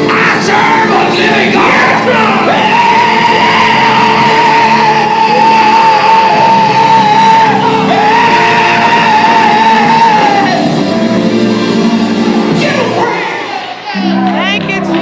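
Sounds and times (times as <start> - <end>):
live gospel band music: 0.0 - 15.0.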